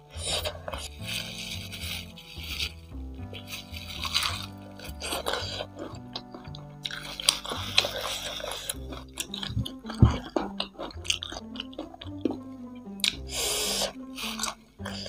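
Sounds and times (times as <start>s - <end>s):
background music: 0.0s - 15.0s
chewing and crunching: 0.0s - 15.0s
wet mouth sounds: 0.1s - 15.0s.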